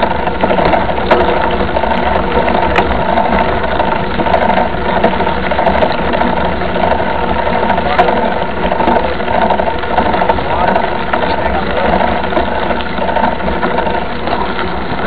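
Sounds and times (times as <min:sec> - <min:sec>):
vehicle engine running: 0:00.0 - 0:15.0
vehicle rattling: 0:00.0 - 0:15.0.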